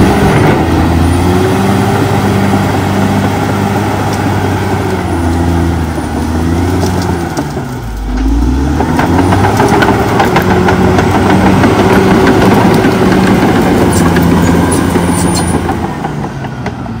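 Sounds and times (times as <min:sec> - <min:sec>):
bulldozer diesel engine: 0:00.0 - 0:17.0.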